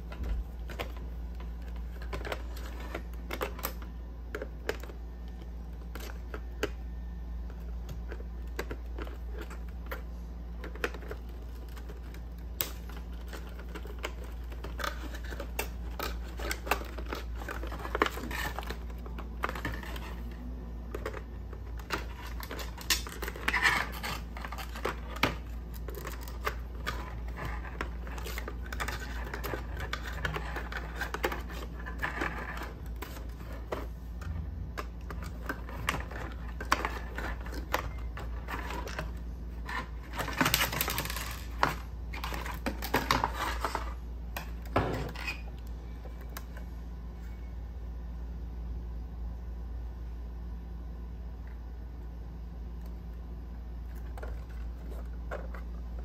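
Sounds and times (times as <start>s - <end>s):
packaging clicks and crinkling: 0.0s - 46.6s
steady low hum: 0.0s - 56.0s.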